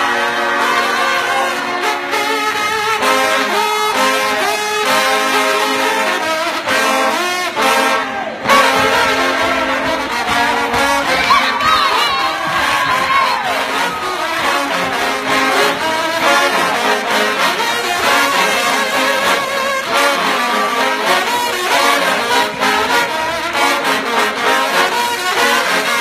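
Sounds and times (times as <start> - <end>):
trombone playing: 0.0 - 26.0.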